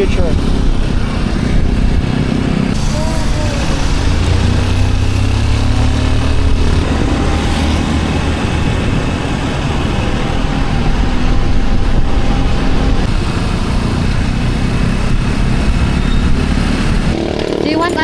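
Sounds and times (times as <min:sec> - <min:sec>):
motorcycle engine drone: 0:00.0 - 0:18.0
wind and road noise: 0:00.0 - 0:18.0.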